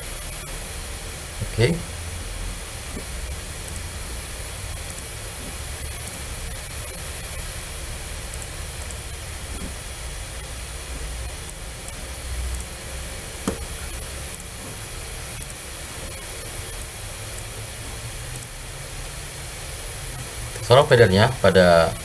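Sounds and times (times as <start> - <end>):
background hiss and hum: 0.0 - 22.0.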